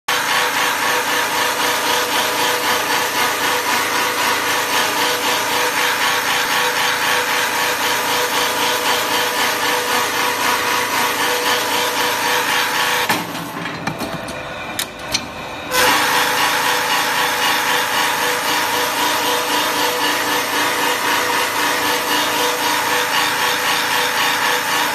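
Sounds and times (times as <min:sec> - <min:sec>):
wood shaping machine milling: 0:00.1 - 0:13.6, 0:15.7 - 0:24.9.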